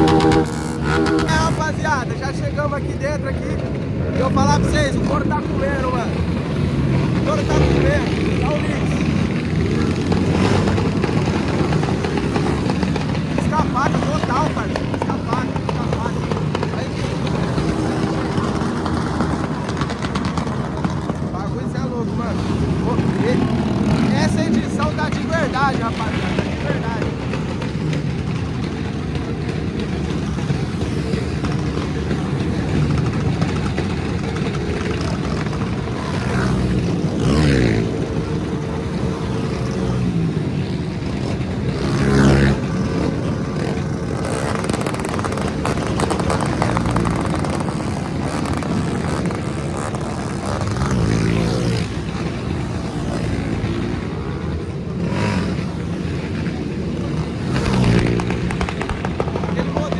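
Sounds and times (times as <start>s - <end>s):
idling engines: 0.0s - 59.9s
motorcycle engines revving: 0.0s - 59.9s.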